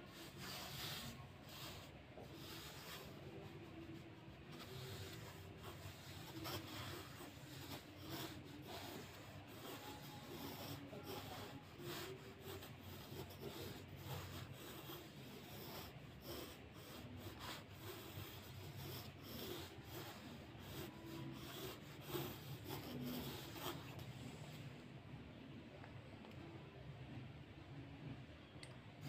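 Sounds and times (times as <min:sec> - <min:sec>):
pencil scratching on paper: 0:00.0 - 0:24.1.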